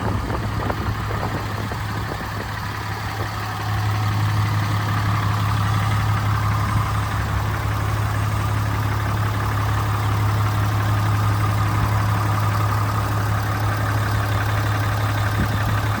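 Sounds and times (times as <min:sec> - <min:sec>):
pickup truck engine idling: 0:00.0 - 0:16.0.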